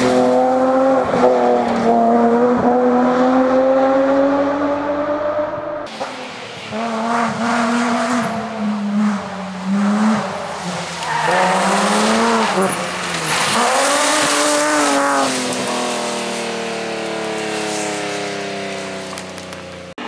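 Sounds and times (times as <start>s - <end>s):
car engine accelerating hard: 0.0s - 19.6s.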